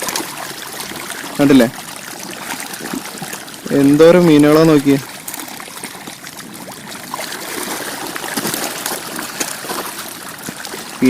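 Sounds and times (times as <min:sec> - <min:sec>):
fish thrashing and splashing: 0:00.0 - 0:11.0.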